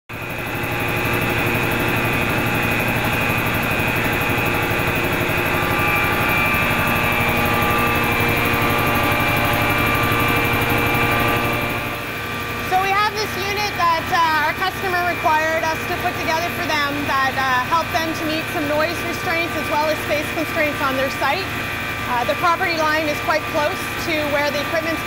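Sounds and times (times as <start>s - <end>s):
high steady whining tones: 0.1s - 25.0s
loud machine drone: 0.1s - 25.0s.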